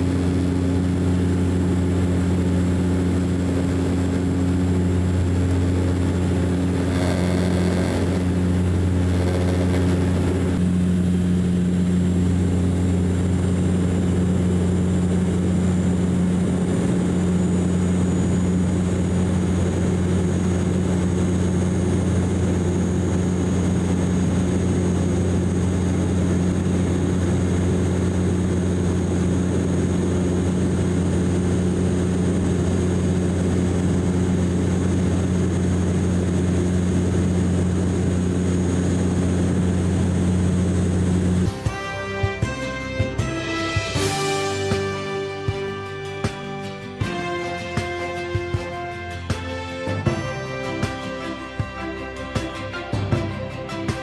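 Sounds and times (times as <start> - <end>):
propeller drone: 0.0 - 54.0
thin high engine whine: 0.0 - 54.0.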